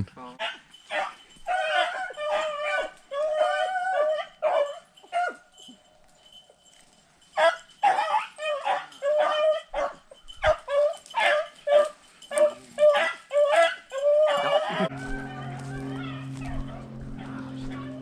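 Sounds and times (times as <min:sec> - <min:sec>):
dogs barking high yelps: 0:00.4 - 0:18.0.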